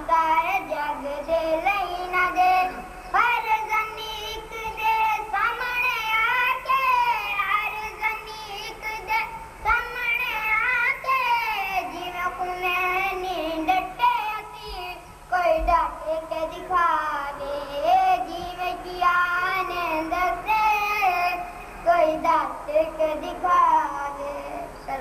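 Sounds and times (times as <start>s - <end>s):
boy singing: 0.0s - 25.0s.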